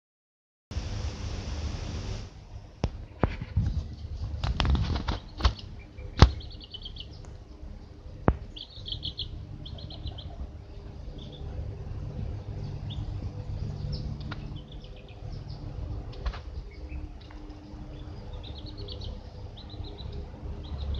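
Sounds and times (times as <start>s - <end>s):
low background rumble: 0.7s - 20.9s
chicks and ducklings peeping: 2.9s - 20.9s.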